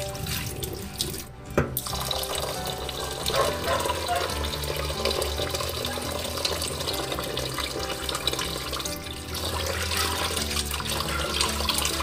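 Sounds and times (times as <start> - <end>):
tap water running into basin: 0.0 - 12.0.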